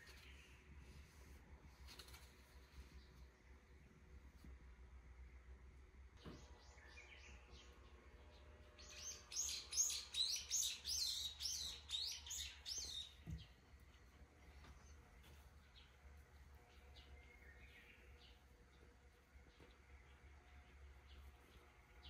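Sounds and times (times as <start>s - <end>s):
songbird chirping: 0.0s - 1.4s, 2.0s - 22.0s.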